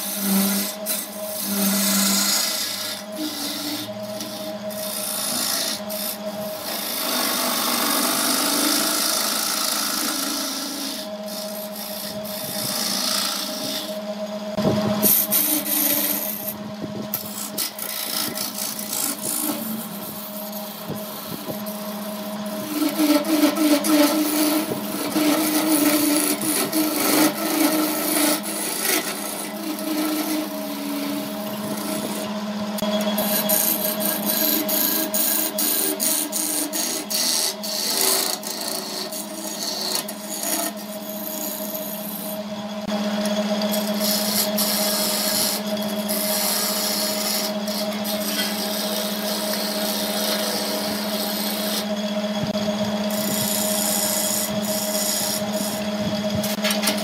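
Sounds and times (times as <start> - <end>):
chisel scraping spinning wood: 0.0 - 57.0
lathe motor humming: 0.0 - 57.0.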